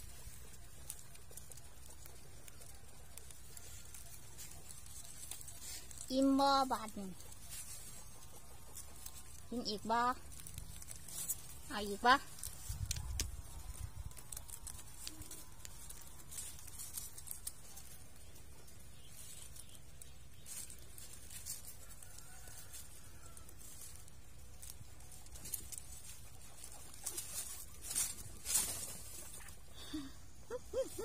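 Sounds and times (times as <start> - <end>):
guinea pigs clicking and rustling: 0.0 - 30.0.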